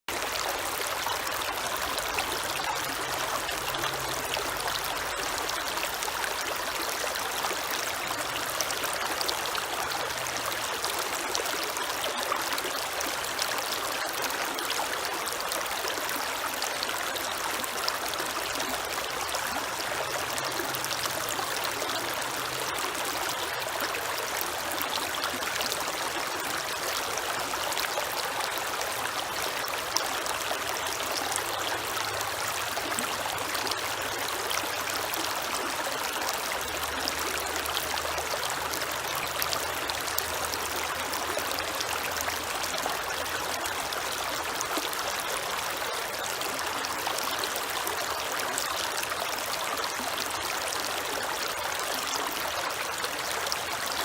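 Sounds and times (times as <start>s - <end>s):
creek water trickling over stones: 0.1s - 54.0s.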